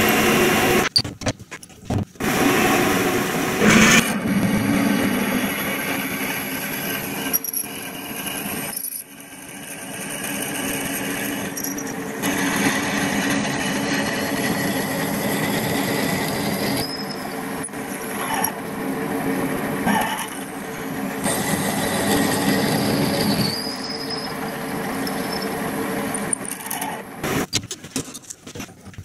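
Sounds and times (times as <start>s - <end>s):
lathe motor whine: 0.0s - 0.9s, 2.2s - 27.5s
drill cutting metal: 0.0s - 1.0s, 2.2s - 27.5s.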